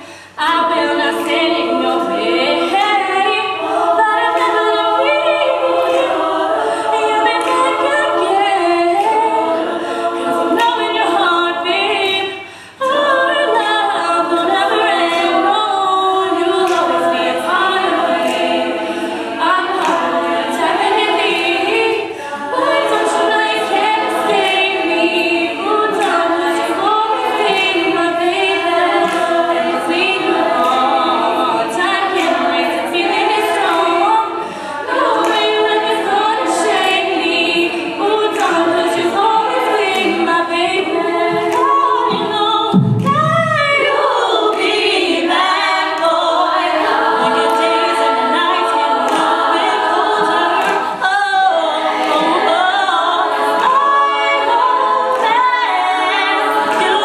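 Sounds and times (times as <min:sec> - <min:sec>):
women singing a cappella: 0:00.0 - 0:57.0.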